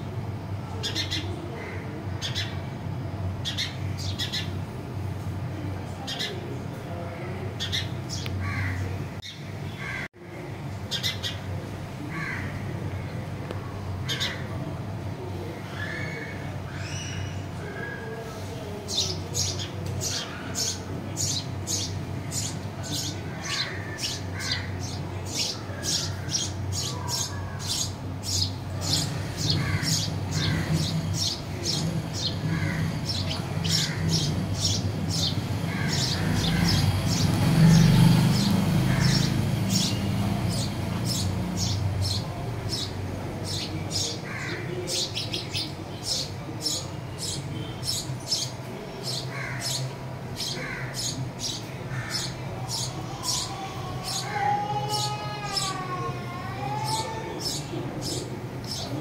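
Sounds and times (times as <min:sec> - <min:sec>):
small birds chirping: 0:00.0 - 0:04.7, 0:05.5 - 0:10.1, 0:10.8 - 0:14.6, 0:15.5 - 0:59.0.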